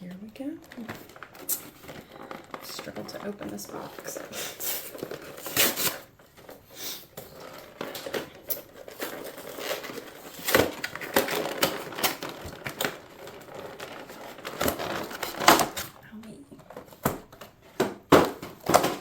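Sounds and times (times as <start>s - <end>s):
cardboard and plastic crinkling: 0.0s - 19.0s.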